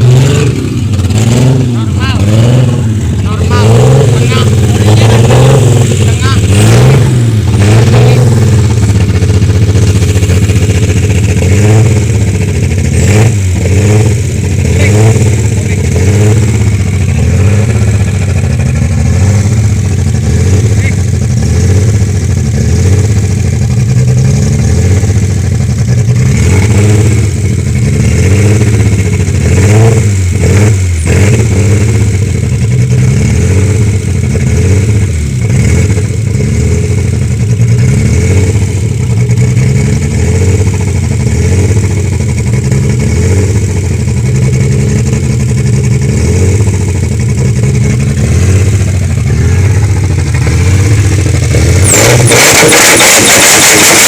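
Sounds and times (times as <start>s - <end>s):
car engine running without exhaust: 0.0s - 54.0s.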